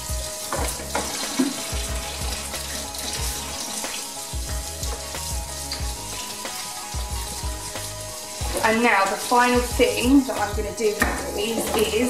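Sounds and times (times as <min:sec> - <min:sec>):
tap water splashing on plastic: 0:00.0 - 0:12.0.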